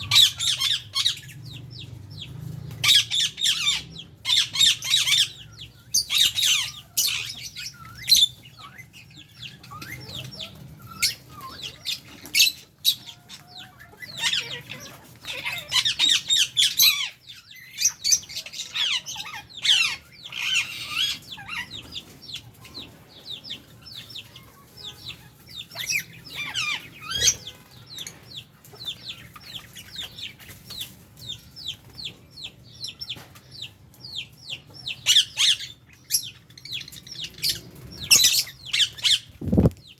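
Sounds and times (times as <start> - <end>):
parrots chattering and screeching: 0.0 - 39.9.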